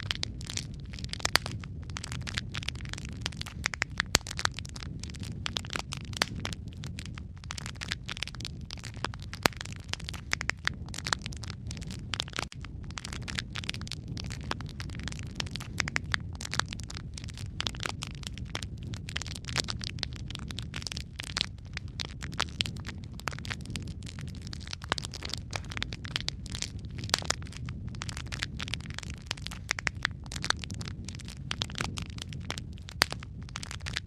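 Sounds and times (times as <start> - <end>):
logs burning in a fireplace: 0.0 - 34.0.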